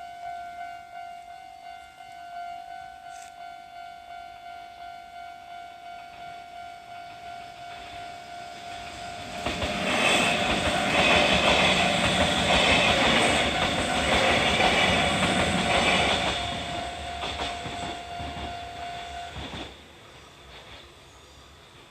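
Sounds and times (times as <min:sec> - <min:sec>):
level-crossing warning bell: 0:00.0 - 0:20.0
train passing: 0:00.0 - 0:21.9.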